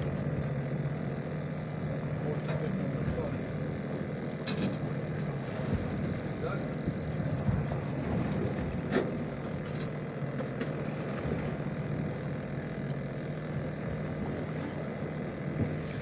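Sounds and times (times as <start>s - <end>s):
boat machinery hum: 0.0s - 16.0s
water noise: 0.0s - 16.0s
wind: 0.0s - 16.0s.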